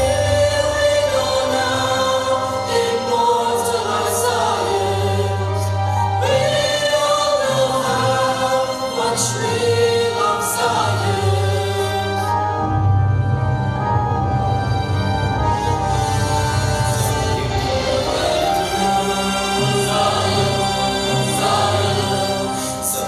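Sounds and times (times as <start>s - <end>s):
voices singing together: 0.0s - 12.6s, 15.6s - 23.0s
instrumental backing music: 0.0s - 23.0s.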